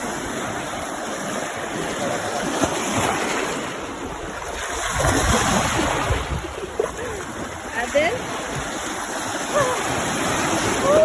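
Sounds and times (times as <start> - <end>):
sea water splashing at shore: 0.0 - 11.0.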